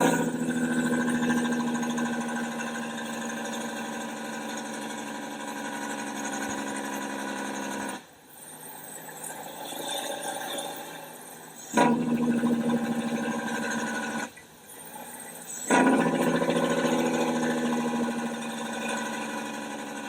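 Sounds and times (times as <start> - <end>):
diesel truck engine running: 0.0 - 9.5, 11.5 - 20.0.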